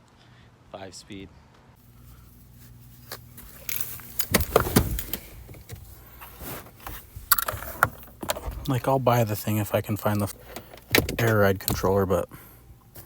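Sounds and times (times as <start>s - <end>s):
steady low hum: 1.8s - 13.0s.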